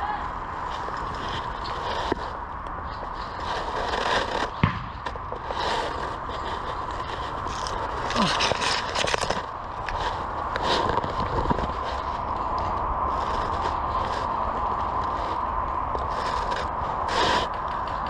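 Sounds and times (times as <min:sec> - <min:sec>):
crackles: 0:00.0 - 0:18.0
rustling and scraping of brush: 0:00.0 - 0:18.0.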